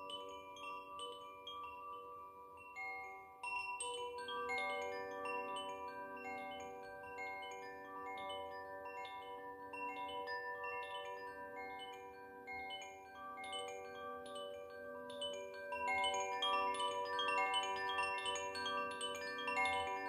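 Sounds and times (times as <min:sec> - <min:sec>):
wind chime rods ringing: 0:00.0 - 0:20.0.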